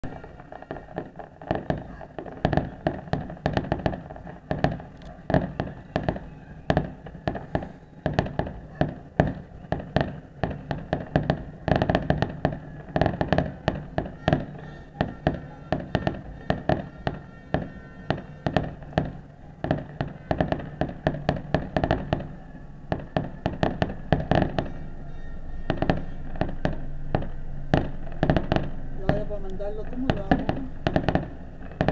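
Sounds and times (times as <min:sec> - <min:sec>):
fireworks bangs and pops: 0:00.0 - 0:31.9.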